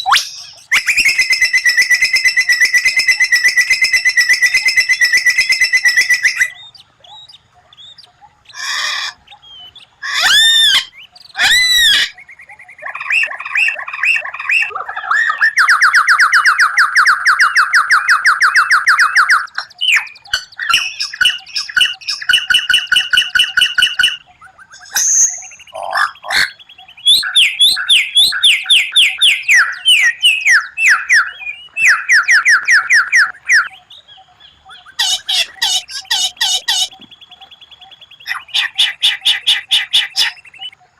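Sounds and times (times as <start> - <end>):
bird singing with whistles and trills: 0.0 - 40.9.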